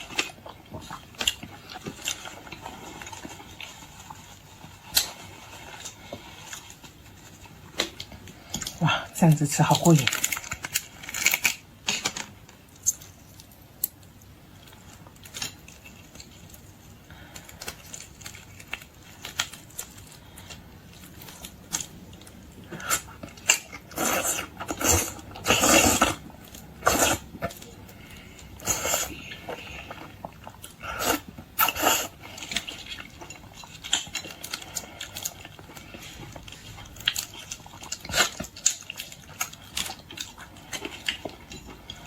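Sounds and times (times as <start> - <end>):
chewing and mouth noises: 0.0 - 8.8, 12.7 - 42.0
small clicks and crackles: 0.0 - 23.9, 32.1 - 42.0.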